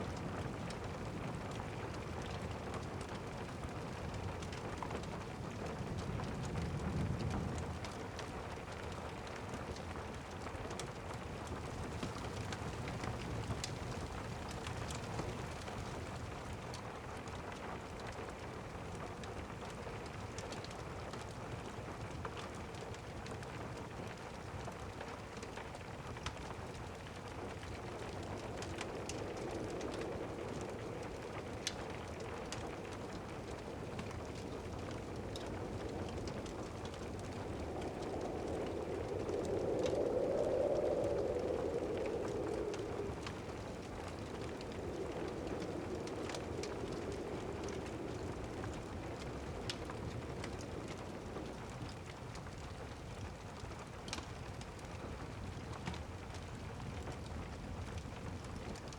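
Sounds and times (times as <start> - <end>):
fireplace fire crackling: 0.0 - 58.9
rain pattering: 0.0 - 58.9.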